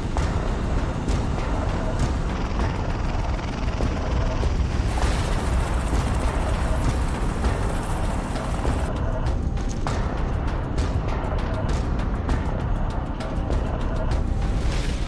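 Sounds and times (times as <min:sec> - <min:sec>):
tiltrotor aircraft rumble: 0:00.0 - 0:15.0.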